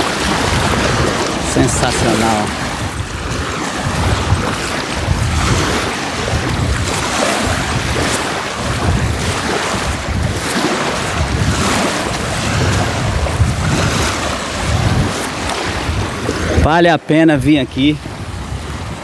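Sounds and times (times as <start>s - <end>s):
small waves washing on shore: 0.0s - 19.0s
wind rumbling on microphone: 0.0s - 19.0s.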